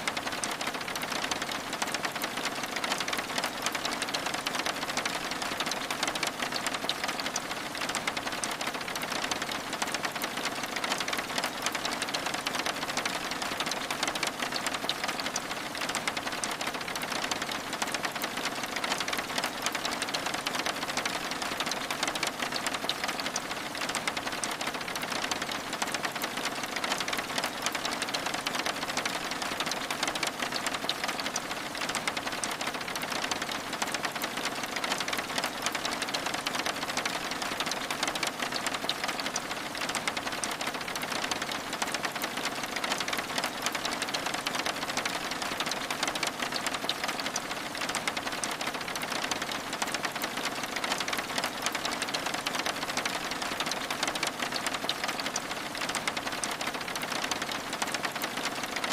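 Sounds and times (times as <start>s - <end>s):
rain pattering on a window: 0.0s - 58.9s.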